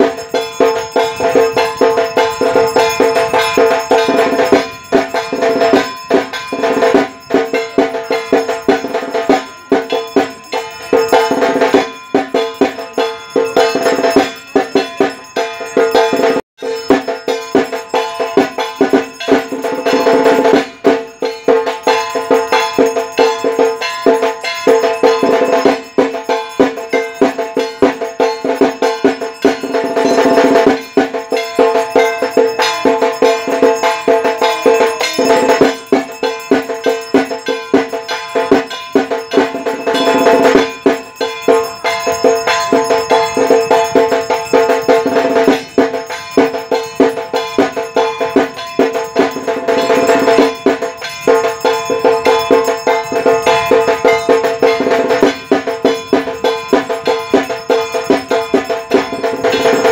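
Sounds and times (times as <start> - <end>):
fast percussion beat: 0.0 - 59.9
sustained steady tones: 0.0 - 59.9.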